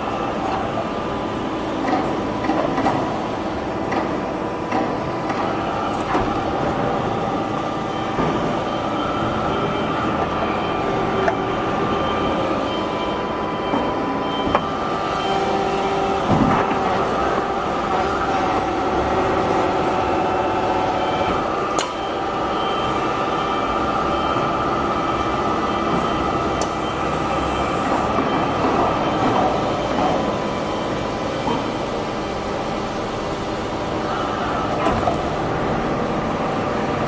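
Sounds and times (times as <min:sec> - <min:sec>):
hydraulic press humming: 0:00.0 - 0:37.0.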